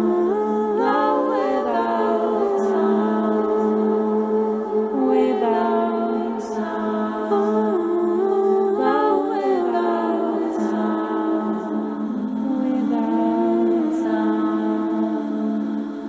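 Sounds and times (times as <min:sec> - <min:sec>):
choir-like voices holding notes: 0:00.0 - 0:16.0.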